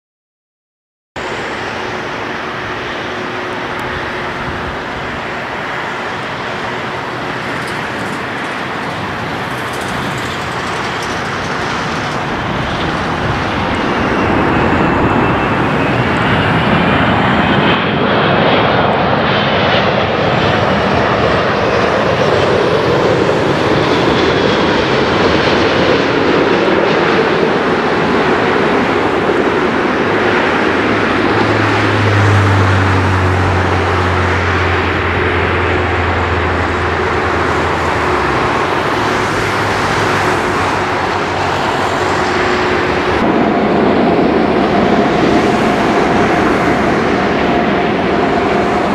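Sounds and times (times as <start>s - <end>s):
engine whine falling in pitch: 1.2s - 48.9s
jet airliner landing: 1.2s - 48.9s.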